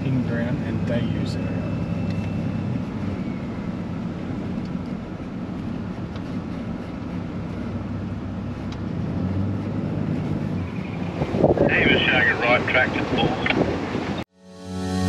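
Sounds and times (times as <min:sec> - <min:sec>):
engine and tyre rumble: 0:00.0 - 0:14.3.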